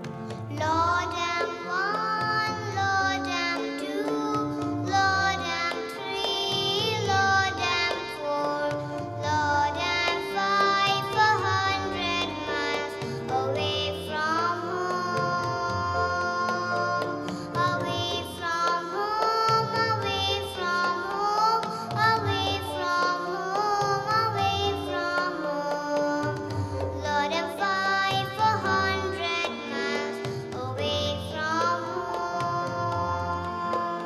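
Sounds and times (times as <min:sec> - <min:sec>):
girl singing into microphone: 0:00.0 - 0:34.0.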